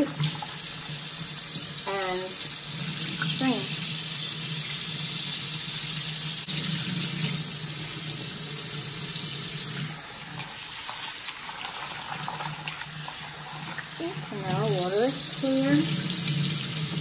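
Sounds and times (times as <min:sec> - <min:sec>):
faucet running into sink: 0:00.0 - 0:17.0
water trickling and splashing: 0:00.0 - 0:17.0.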